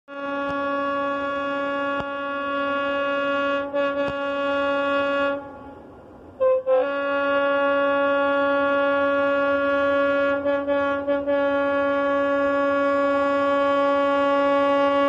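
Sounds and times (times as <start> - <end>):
short horn toots: 0.1 - 5.8, 6.4 - 15.0
locomotive horn blast: 0.1 - 15.0.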